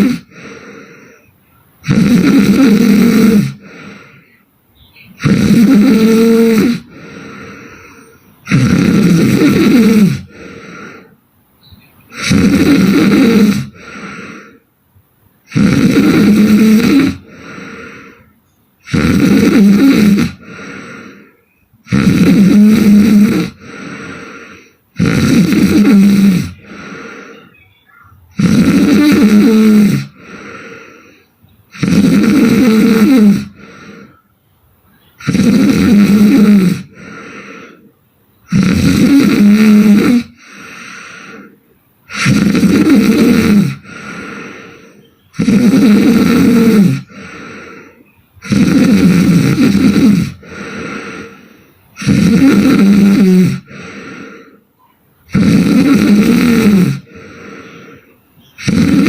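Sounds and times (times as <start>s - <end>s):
woman snoring: 0.0s - 4.4s, 5.2s - 11.2s, 12.1s - 14.6s, 15.4s - 34.2s, 35.1s - 37.9s, 38.5s - 54.6s, 55.3s - 59.0s.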